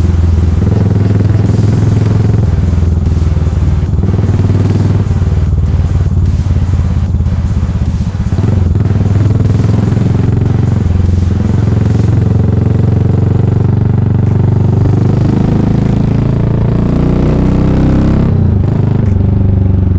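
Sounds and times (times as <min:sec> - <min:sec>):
single-cylinder motorcycle engine running: 0:00.0 - 0:19.9.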